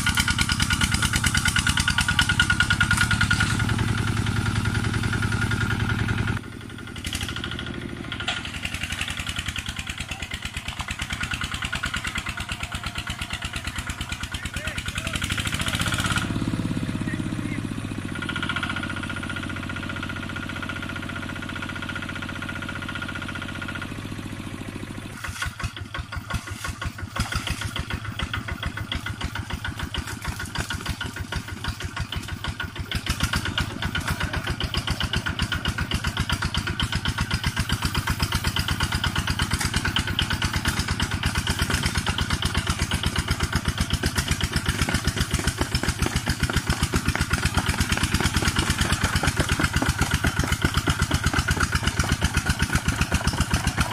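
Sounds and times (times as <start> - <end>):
diesel tractor engine chugging: 0.0 - 53.9.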